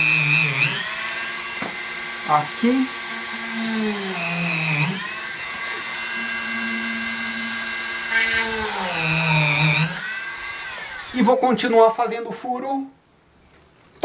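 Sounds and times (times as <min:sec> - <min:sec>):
rotary tool drilling wood: 0:00.0 - 0:11.6.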